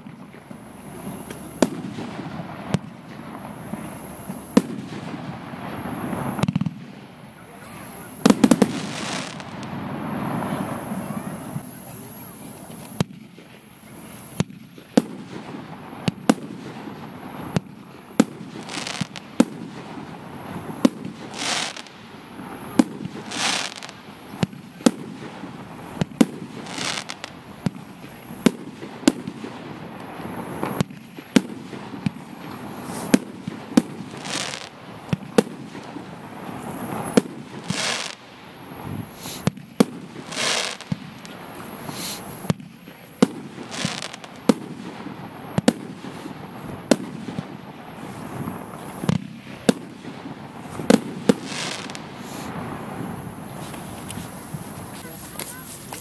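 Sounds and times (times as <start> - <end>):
firework hissing bursts: 0.1 - 13.1, 13.7 - 56.0
firework battery shots: 8.2 - 11.7, 14.4 - 56.0.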